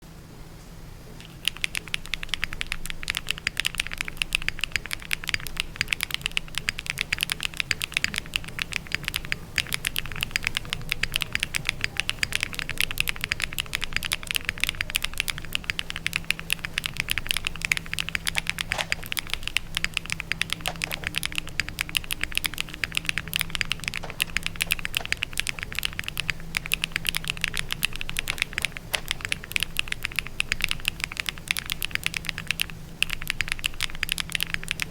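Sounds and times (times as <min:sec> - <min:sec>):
fast typing on mechanical keyboard: 0:01.2 - 0:34.9.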